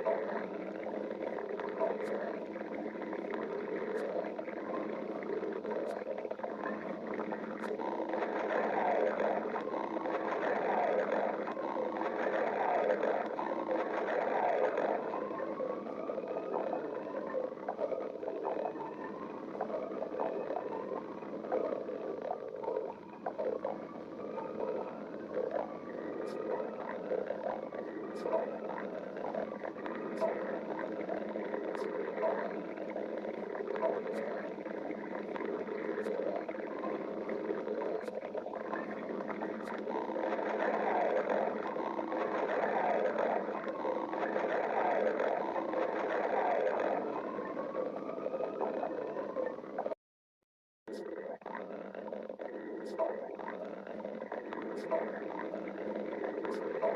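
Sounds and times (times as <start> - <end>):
stomach growling: 0.0 - 50.0, 50.9 - 56.9.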